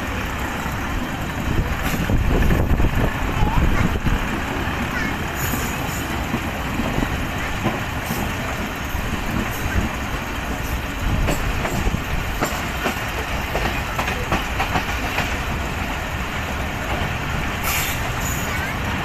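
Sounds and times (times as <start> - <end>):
train rumble and rush: 0.0 - 19.0.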